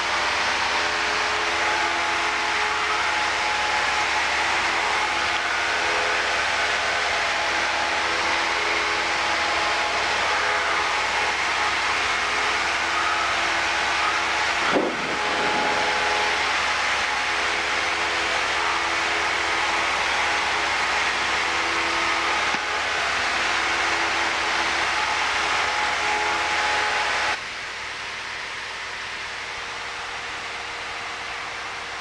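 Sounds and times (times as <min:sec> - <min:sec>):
rushing air noise: 0:00.0 - 0:27.3
propeller plane engine droning: 0:00.0 - 0:32.0.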